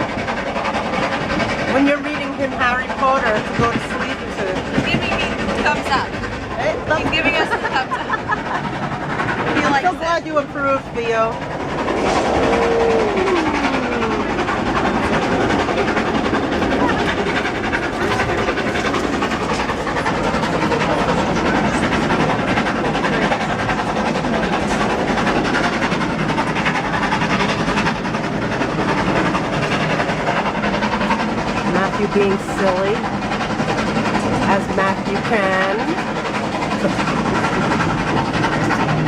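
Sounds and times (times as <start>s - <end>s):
train rumbling on rails: 0.0s - 39.0s.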